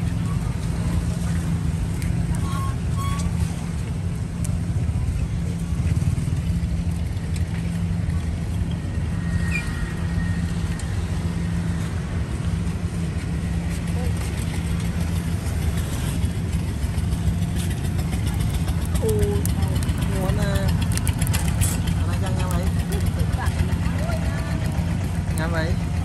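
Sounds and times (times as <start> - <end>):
faint voices: 0.0 - 26.0
low engine hum: 0.0 - 26.0.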